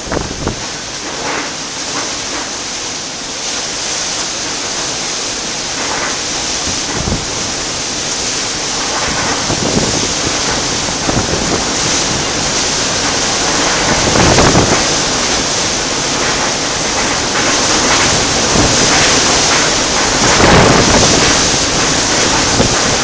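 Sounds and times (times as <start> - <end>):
wind and driving rain: 0.0 - 23.0.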